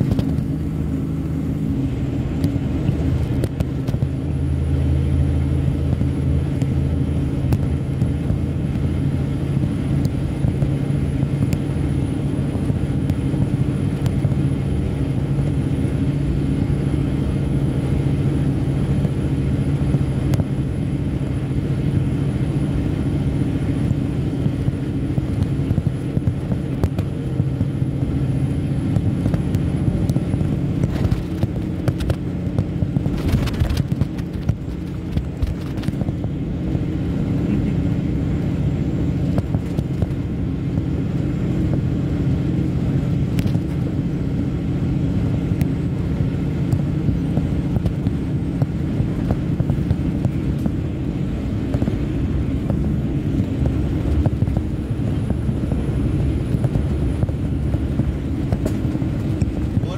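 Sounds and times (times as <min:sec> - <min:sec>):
road noise: 0:00.0 - 0:59.9
truck diesel engine droning: 0:00.0 - 0:59.9.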